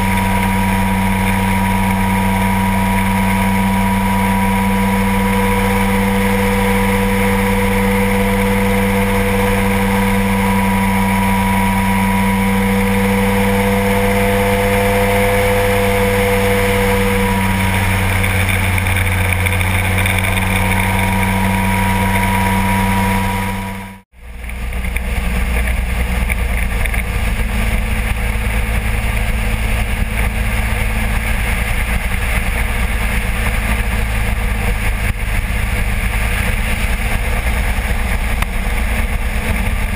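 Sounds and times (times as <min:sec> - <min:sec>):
light aircraft engine drone: 0:00.0 - 0:39.9
wind noise: 0:00.0 - 0:39.9.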